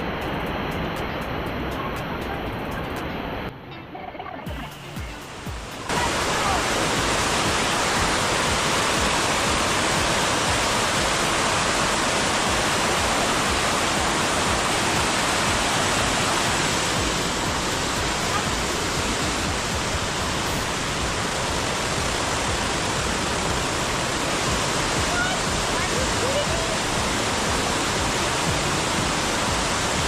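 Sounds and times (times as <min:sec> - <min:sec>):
water falling over small waterfall: 0:05.5 - 0:30.0.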